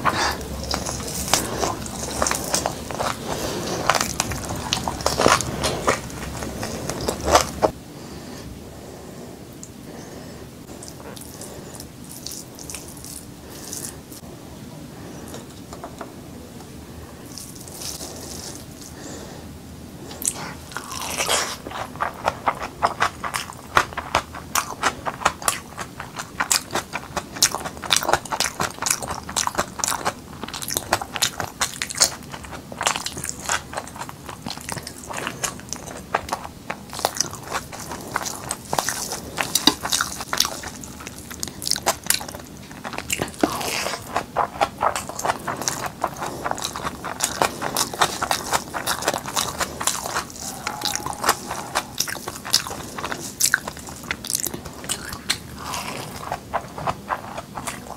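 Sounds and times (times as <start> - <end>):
chewing food: 0.0 - 7.8, 10.6 - 14.3, 15.0 - 19.3, 20.0 - 57.9.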